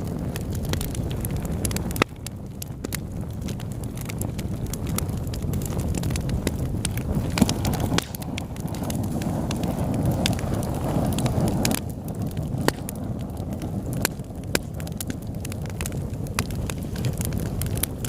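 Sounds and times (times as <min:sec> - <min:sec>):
fire crackling and popping: 0:00.0 - 0:18.0
wood fire burning: 0:00.0 - 0:18.0.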